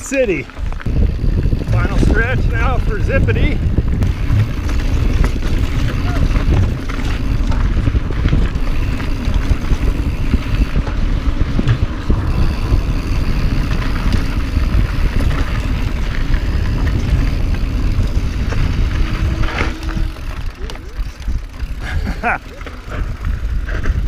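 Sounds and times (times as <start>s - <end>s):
tyres rumbling on dirt: 0.0s - 24.0s
wind buffeting microphone: 0.0s - 24.0s
bike knocks and rattles: 0.5s - 24.0s.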